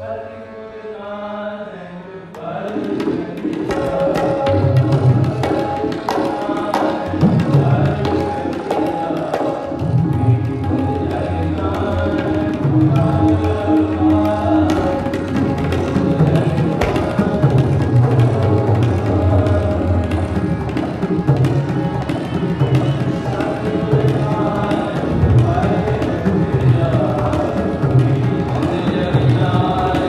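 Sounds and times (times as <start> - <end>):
harmonium chords: 0.0 - 30.0
tabla strokes: 2.4 - 30.0.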